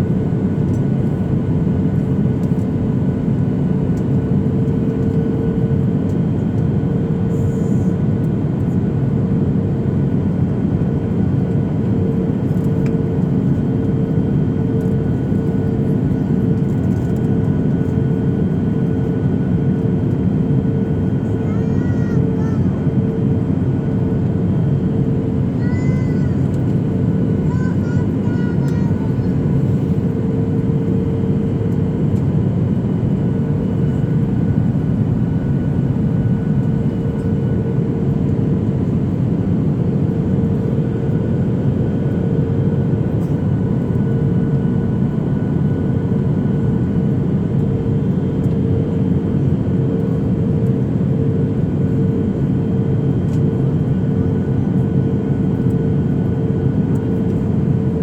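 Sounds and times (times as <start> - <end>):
constant humming tone: 0.0 - 58.0
engine and airflow rush: 0.0 - 58.0.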